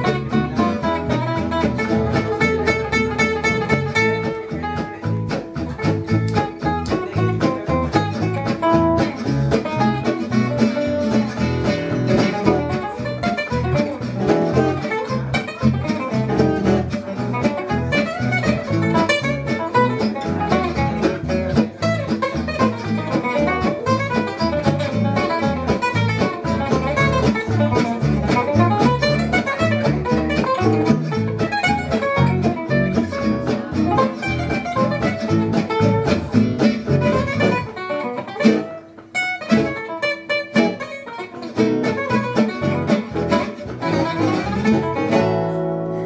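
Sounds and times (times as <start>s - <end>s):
acoustic guitars playing swing jazz: 0.0s - 46.0s.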